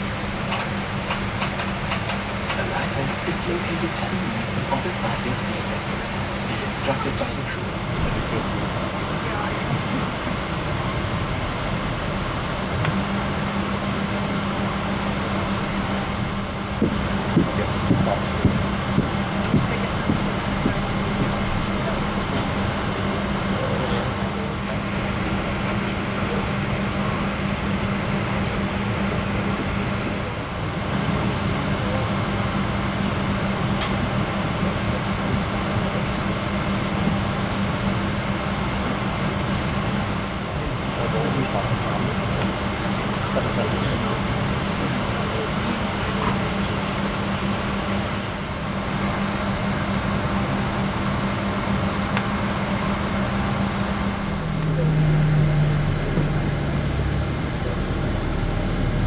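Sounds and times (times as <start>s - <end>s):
cabin air conditioning rushing: 0.0s - 59.0s
constant low hum: 0.0s - 59.0s.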